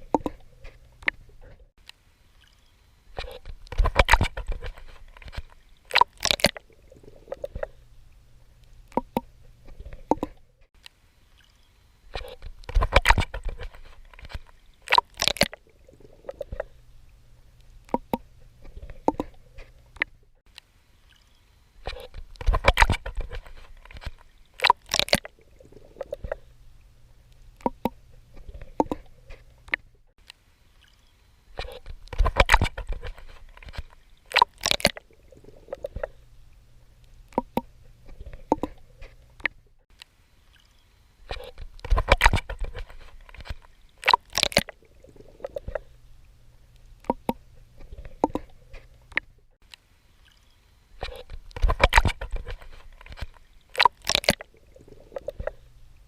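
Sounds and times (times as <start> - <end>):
swimming splashes and gurgles: 0.0 - 1.7, 2.4 - 10.7, 11.3 - 20.2, 20.9 - 30.0, 30.7 - 39.7, 40.5 - 49.4, 50.2 - 55.9
low steady hum: 0.0 - 56.0.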